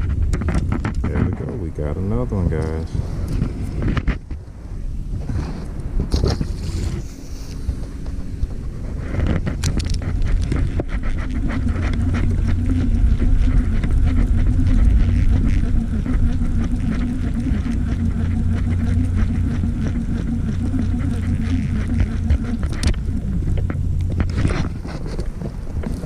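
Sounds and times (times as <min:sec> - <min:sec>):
boat motor humming: 0:00.0 - 0:26.0.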